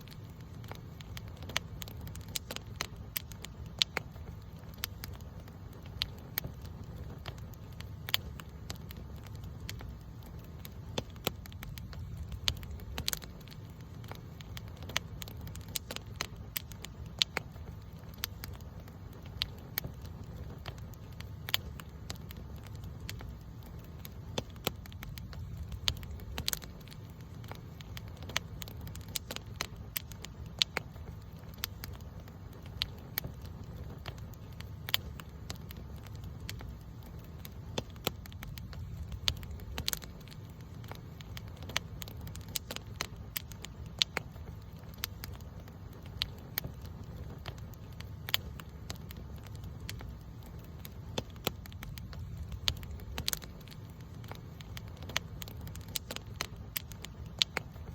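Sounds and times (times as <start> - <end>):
campfire crackling and popping: 0.0 - 57.9
low rumble of flames: 0.0 - 57.9.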